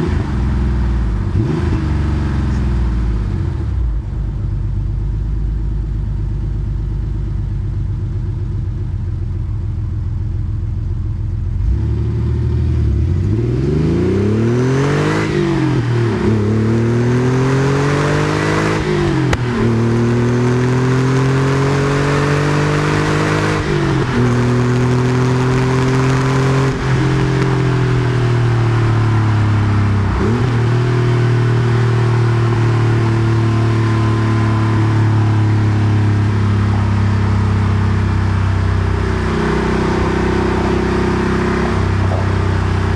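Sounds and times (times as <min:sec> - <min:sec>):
car engine accelerating through gears: 0:00.0 - 0:03.9, 0:11.6 - 0:42.9.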